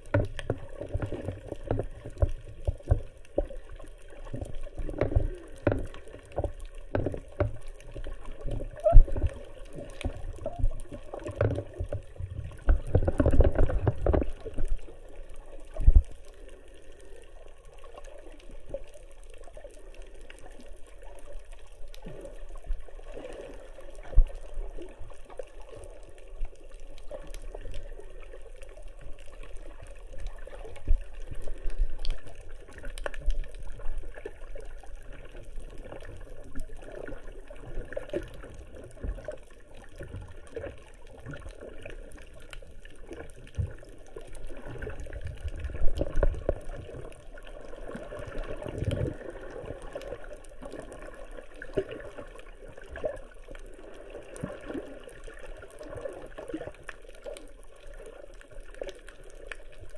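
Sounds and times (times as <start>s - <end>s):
muffled water sloshing and bubbling: 0.0s - 59.9s.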